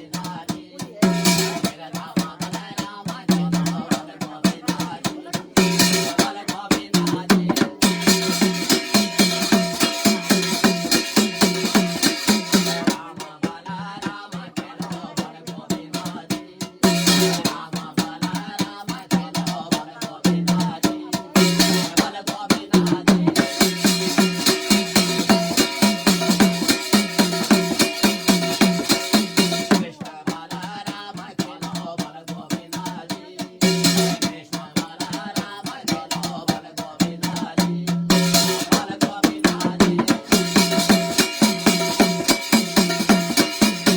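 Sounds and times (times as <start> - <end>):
fast folk drum beat: 0.0 - 43.9.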